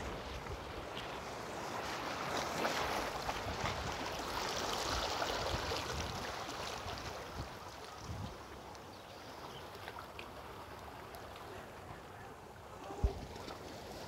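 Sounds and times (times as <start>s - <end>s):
sea surf on rocky shore: 0.0s - 14.0s.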